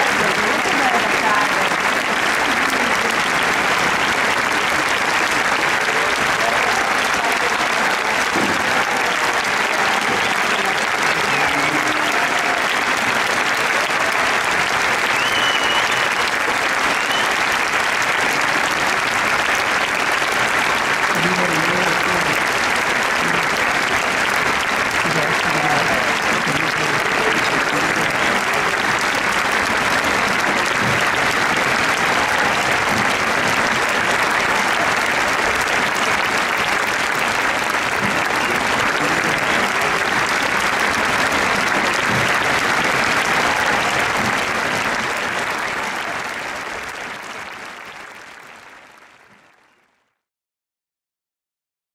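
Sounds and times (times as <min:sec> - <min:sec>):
large audience applauding: 0:00.0 - 0:50.3.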